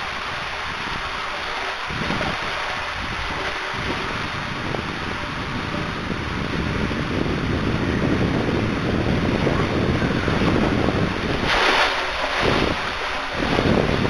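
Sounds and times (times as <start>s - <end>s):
water rushing down a tube slide: 0.0s - 14.0s.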